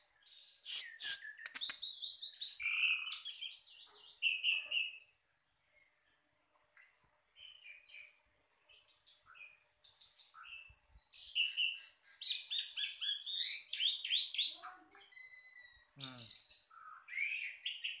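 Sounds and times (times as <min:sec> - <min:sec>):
birds chirping and singing: 0:00.0 - 0:05.0, 0:07.4 - 0:18.0.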